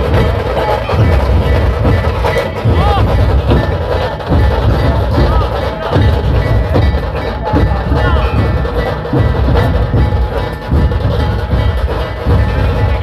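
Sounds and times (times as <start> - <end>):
dhol drums beating: 0.0 - 13.0.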